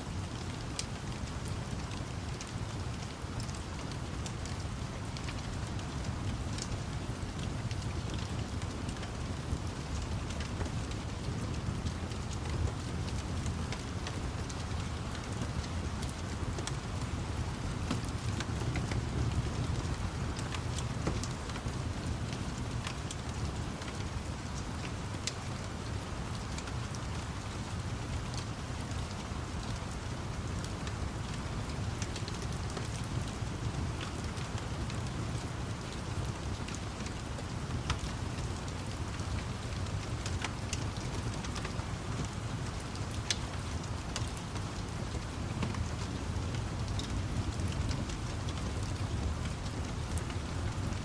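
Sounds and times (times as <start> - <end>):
steady rain: 0.0 - 51.0
wood fire crackling: 0.1 - 51.0.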